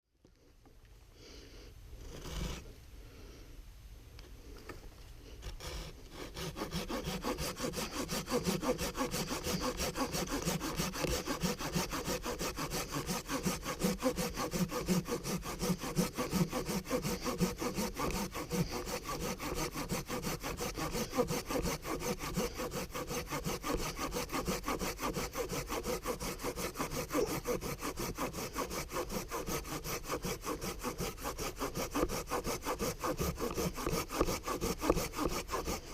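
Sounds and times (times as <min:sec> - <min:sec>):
hand saw cutting wood: 0:02.0 - 0:02.7, 0:05.3 - 0:35.9.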